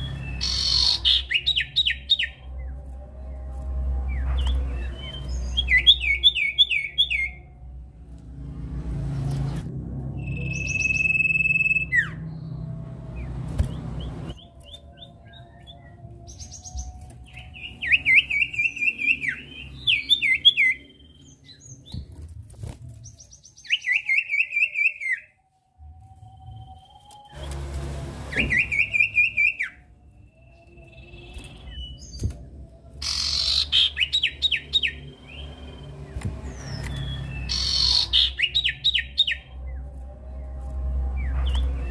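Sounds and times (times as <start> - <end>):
bird singing rapid chirps: 0.0 - 3.5, 4.1 - 7.5, 10.1 - 22.3, 22.9 - 25.3, 26.3 - 40.4.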